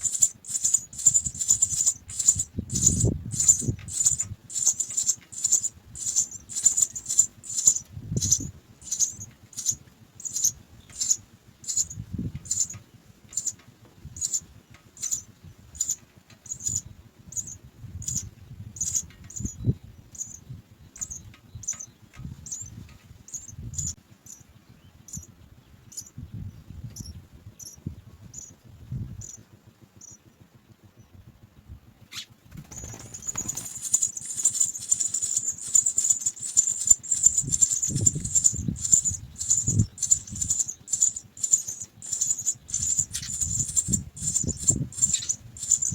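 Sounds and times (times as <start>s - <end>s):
nestlings cheeping: 0.0s - 26.2s, 32.1s - 45.9s.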